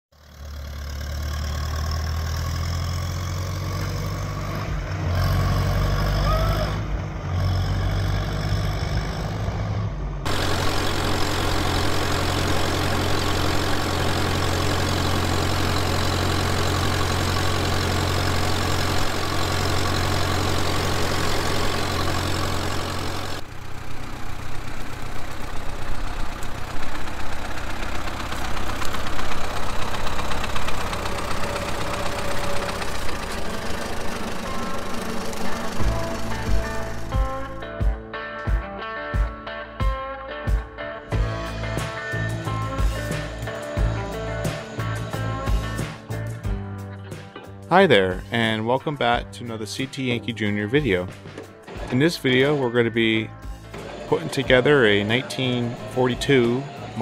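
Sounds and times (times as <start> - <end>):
tractor engine running: 0.1 - 38.0, 41.1 - 57.0.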